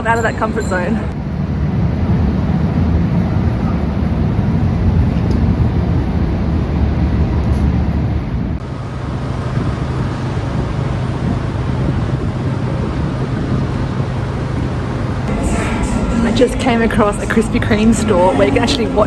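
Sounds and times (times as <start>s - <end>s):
city street traffic: 0.0s - 19.0s
wind buffeting microphone: 0.0s - 19.0s.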